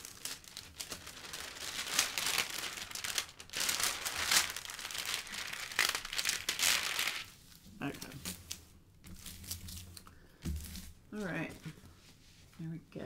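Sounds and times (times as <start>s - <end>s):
plastic film crinkling: 0.0s - 11.6s.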